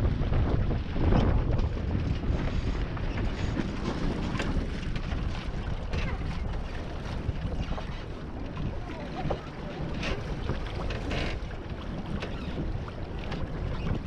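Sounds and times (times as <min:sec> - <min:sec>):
water noise from hull: 0:00.0 - 0:14.0
wind buffeting microphone: 0:00.0 - 0:14.0.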